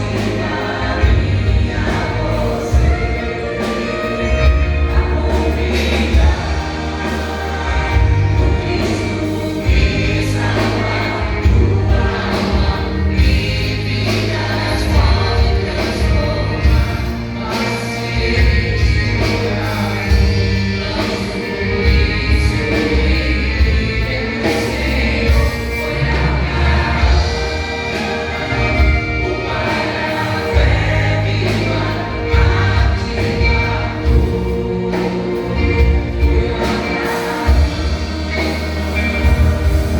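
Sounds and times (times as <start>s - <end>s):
band with bass beat: 0.0s - 39.9s
vocal group singing gospel: 0.0s - 39.9s.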